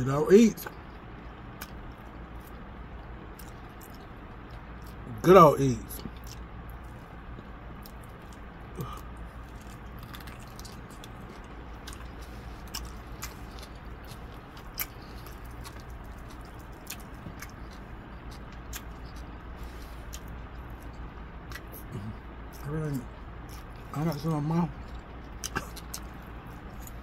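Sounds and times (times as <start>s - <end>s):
low hum: 0.0s - 27.0s
chewing ribs: 0.5s - 27.0s.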